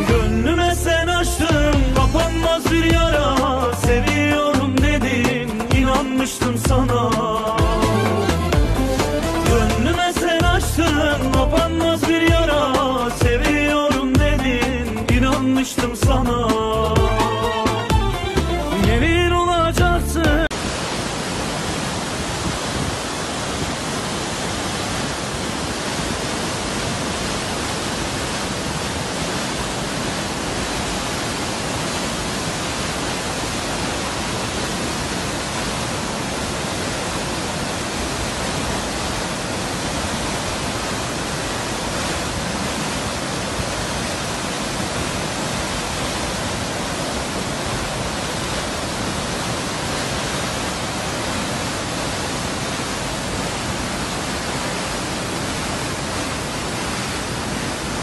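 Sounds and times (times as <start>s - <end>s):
waterfall rushing onto rocks: 0.0s - 58.0s.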